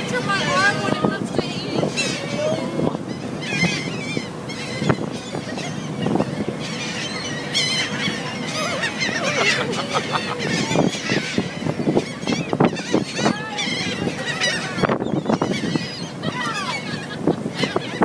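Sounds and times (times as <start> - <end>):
gulls calling: 0.0 - 18.0.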